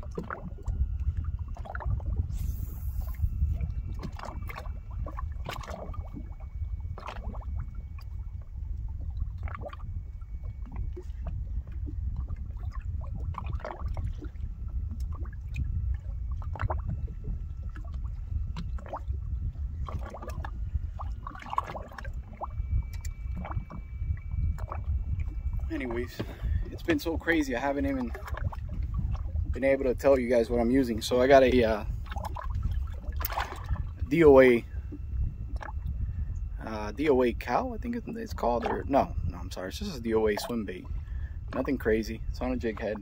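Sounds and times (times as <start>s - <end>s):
low rumble: 0.0s - 43.0s
waves lapping against boat hull: 0.0s - 43.0s.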